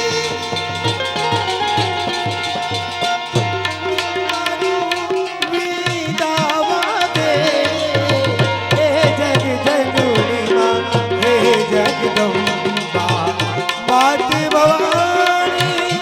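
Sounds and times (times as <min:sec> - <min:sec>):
hand drum rhythm: 0:00.0 - 0:16.0
held chords: 0:00.0 - 0:16.0
ornamented melody line: 0:00.0 - 0:16.0.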